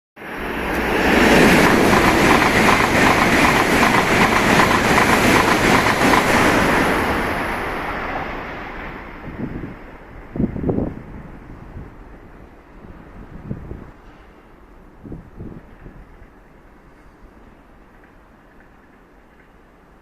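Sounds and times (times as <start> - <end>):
high-speed train passing: 0.2 - 20.0.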